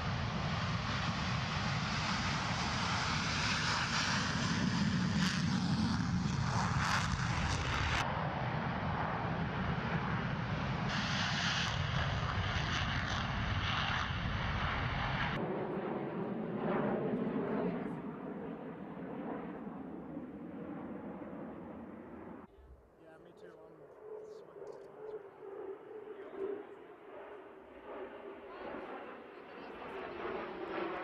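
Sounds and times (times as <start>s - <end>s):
aircraft engine drone: 0.0s - 31.0s.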